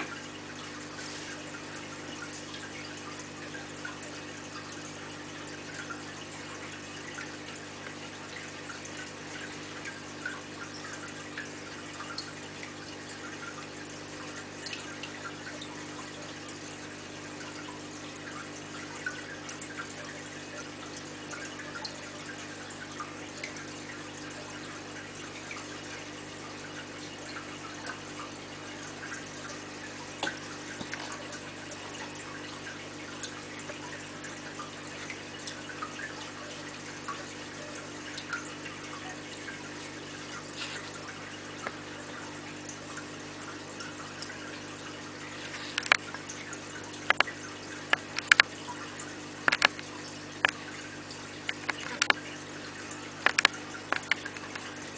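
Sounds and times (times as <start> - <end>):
water trickling and dripping: 0.0 - 54.9.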